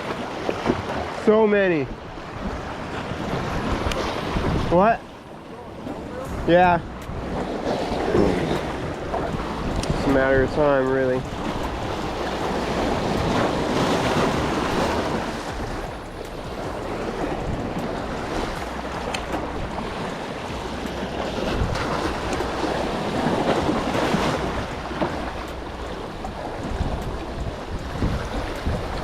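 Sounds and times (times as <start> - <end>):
sea waves washing: 0.0 - 29.0
wind buffeting microphone: 0.0 - 29.0.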